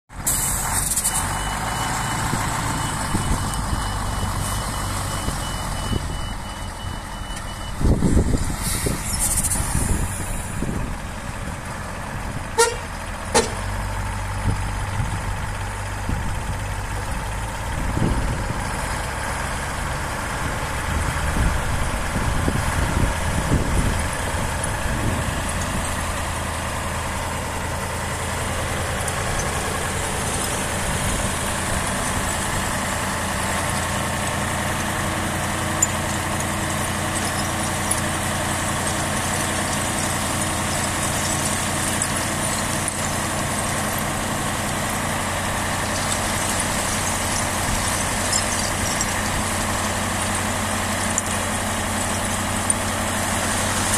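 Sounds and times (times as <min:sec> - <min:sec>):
diesel truck engine running: 0:00.1 - 0:53.9.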